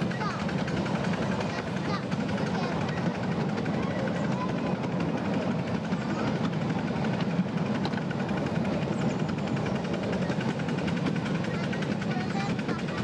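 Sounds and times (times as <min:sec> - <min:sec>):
train carriages rumbling on track: 0:00.0 - 0:13.0
wheels rattling on rail: 0:00.0 - 0:13.0.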